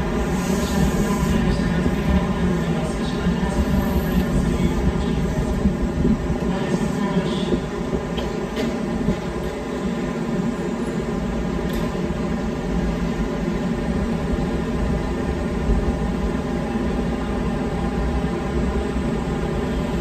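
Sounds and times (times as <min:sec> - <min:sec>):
electric train equipment humming: 0:00.0 - 0:20.0.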